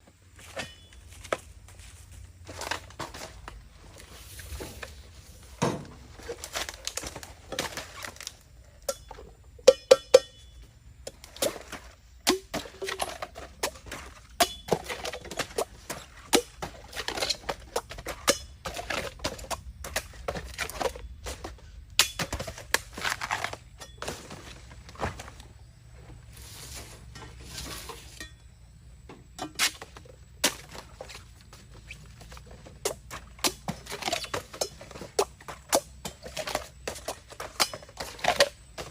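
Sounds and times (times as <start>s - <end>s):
bamboo cracking and knocking: 2.5s - 25.5s, 29.1s - 38.9s.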